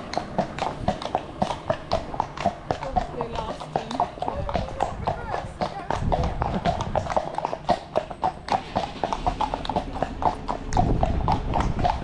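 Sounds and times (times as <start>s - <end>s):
hooves clip-clopping on tarmac: 0.0s - 12.0s.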